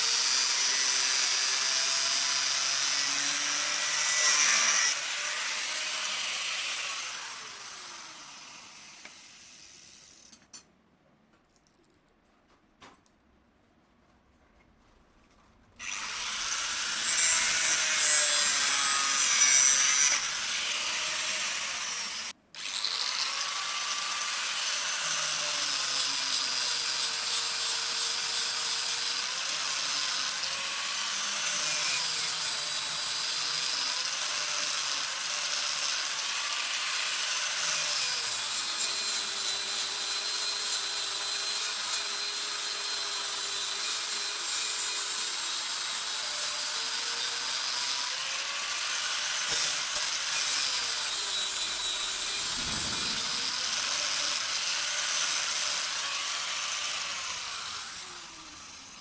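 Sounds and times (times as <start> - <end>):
grinder grinding steel: 0.0 - 10.6, 15.8 - 59.0.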